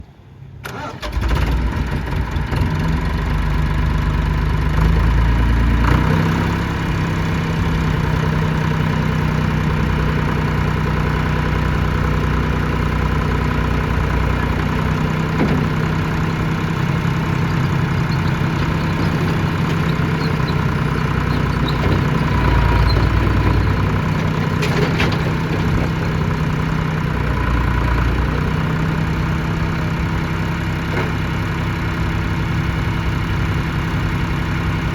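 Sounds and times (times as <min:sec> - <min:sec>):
tractor engine idling: 0:00.6 - 0:34.9.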